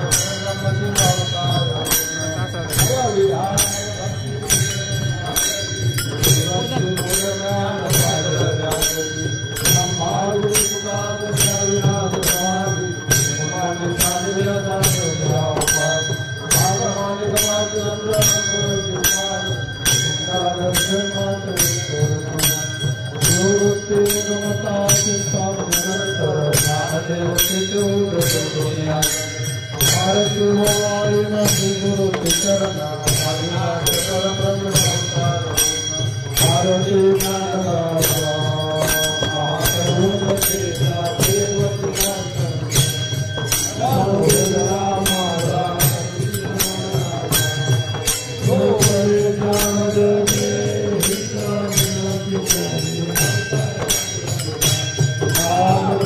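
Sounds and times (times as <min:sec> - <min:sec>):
brass hand cymbals ringing: 0:00.0 - 0:56.0
men singing a chant: 0:00.0 - 0:56.0.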